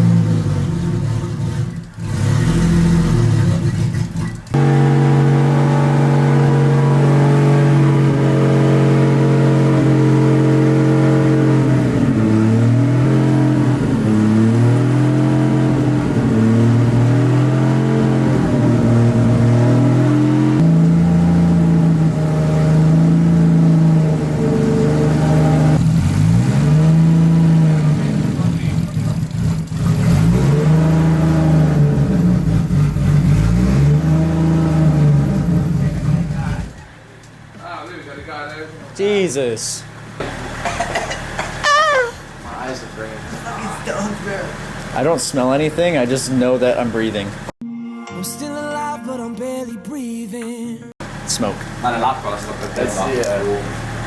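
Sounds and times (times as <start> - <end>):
car engine running and revving: 0.0 - 37.7, 38.7 - 47.6, 51.0 - 54.0.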